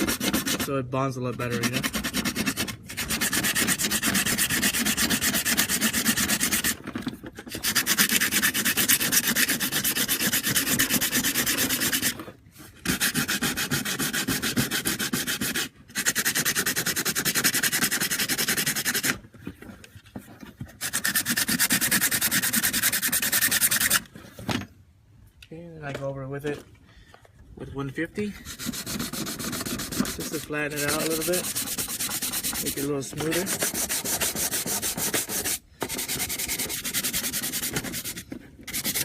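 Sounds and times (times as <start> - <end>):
sandpaper sanding plastic: 0.0 - 19.2, 20.7 - 24.1, 28.2 - 39.0.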